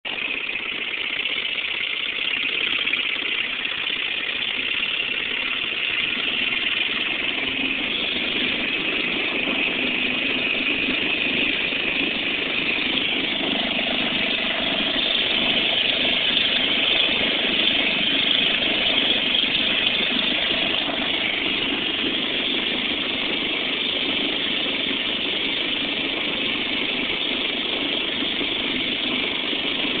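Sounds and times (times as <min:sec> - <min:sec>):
two-stroke outboard motor running: 0:00.0 - 0:30.0.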